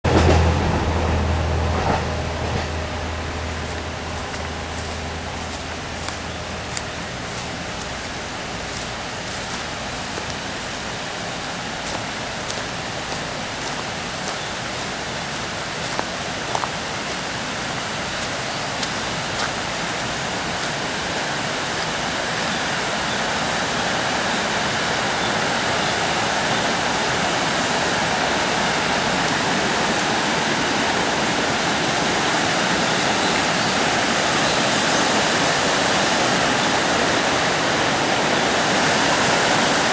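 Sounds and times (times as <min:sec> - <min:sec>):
stream water rushing: 0:00.1 - 0:39.9.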